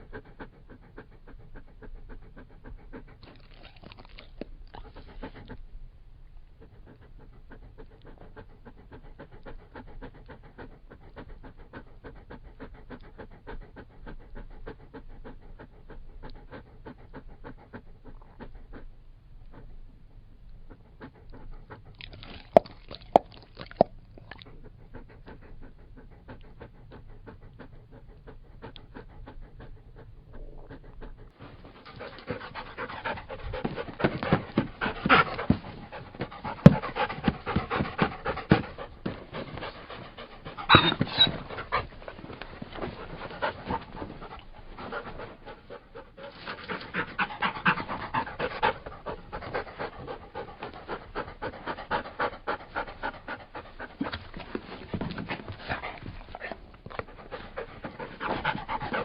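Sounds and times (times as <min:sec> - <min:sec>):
dog panting: 0:00.0 - 0:05.8, 0:06.4 - 0:59.0.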